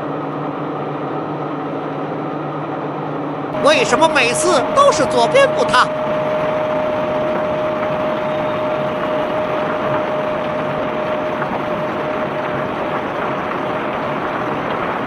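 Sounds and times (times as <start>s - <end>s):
machine whine: 0.0s - 15.0s.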